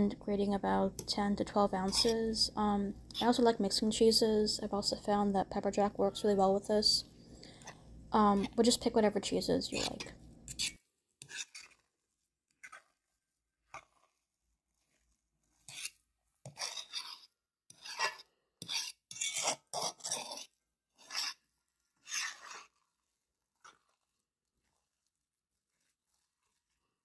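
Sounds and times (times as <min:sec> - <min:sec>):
utensil scraping mashed potatoes: 0:00.0 - 0:27.0.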